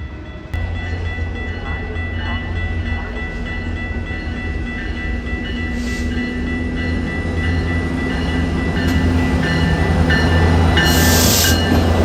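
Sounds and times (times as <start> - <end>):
steady tones: 0.0 - 12.0
train rumbling by: 0.0 - 12.0.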